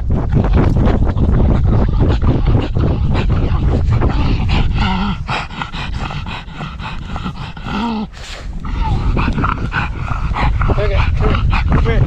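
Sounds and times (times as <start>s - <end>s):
dog breathing hard: 0.0s - 12.0s
dog grunts: 0.0s - 12.0s
wind rumbling on microphone: 0.0s - 12.0s.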